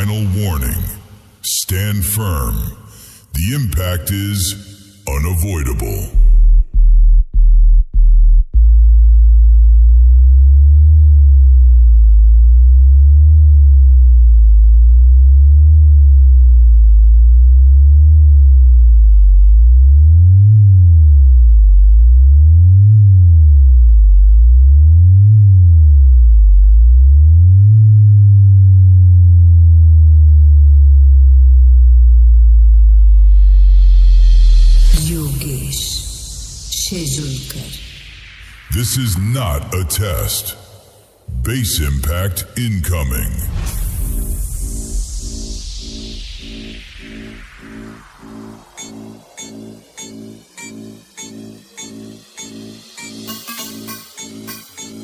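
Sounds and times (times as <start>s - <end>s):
deep sweeping sub-bass hum: 0.0s - 2.8s, 3.4s - 53.3s
short bass pulses: 3.4s - 54.7s.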